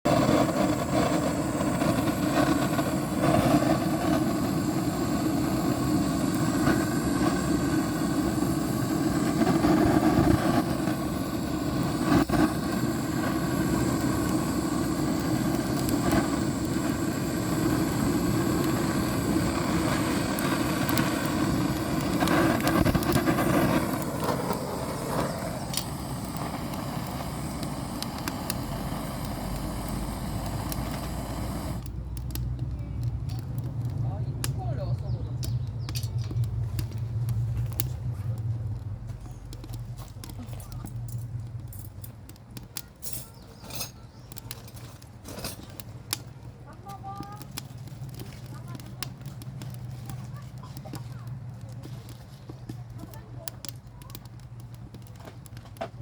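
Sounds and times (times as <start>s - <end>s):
fire crackles: 0.0s - 56.0s
fire rumbling: 0.0s - 56.0s.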